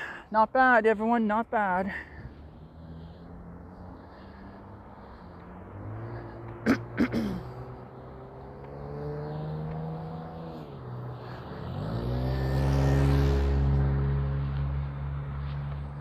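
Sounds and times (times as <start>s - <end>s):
vehicle engine steady: 0.0s - 16.0s
vehicle accelerating close by: 2.2s - 16.0s.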